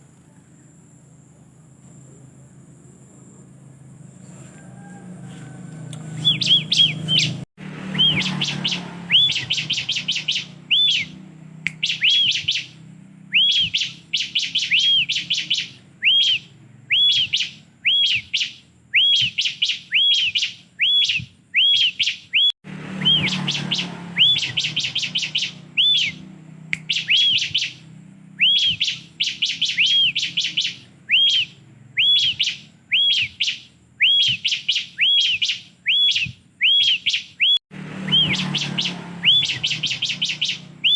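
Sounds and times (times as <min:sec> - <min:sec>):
bird singing high chirps: 0:05.8 - 0:40.9.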